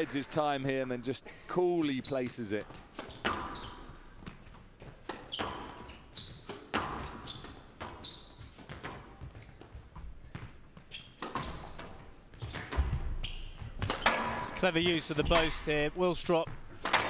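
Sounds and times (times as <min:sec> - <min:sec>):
shoes squeaking on court: 0:01.7 - 0:17.0
squash ball hitting rackets and walls: 0:02.6 - 0:15.8, 0:16.4 - 0:17.0.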